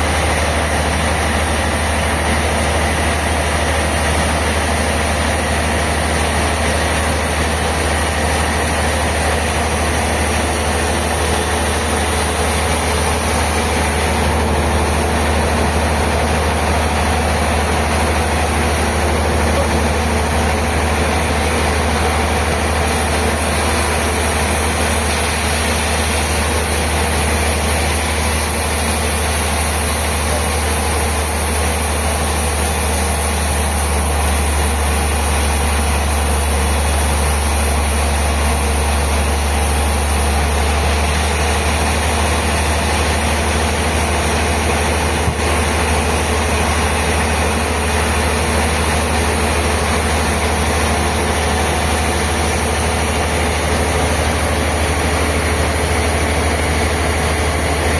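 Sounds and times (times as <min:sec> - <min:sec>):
sawmill machinery droning: 0:00.0 - 0:57.9.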